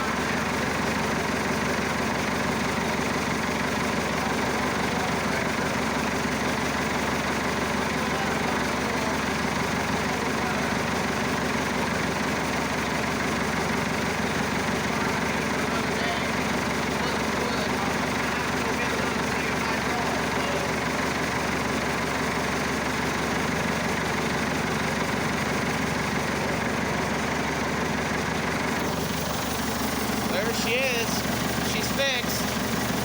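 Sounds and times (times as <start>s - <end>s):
diesel tractor engine idling: 0.0s - 33.0s.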